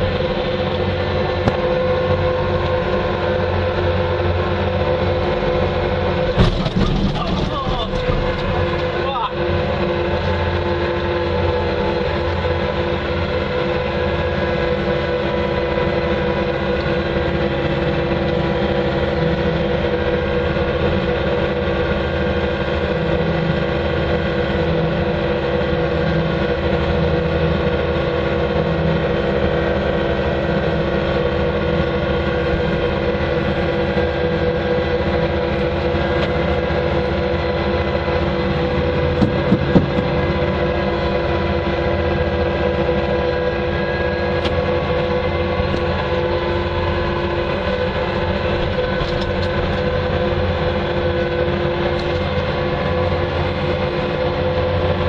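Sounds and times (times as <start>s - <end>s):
loader engine running: 0.0s - 55.0s.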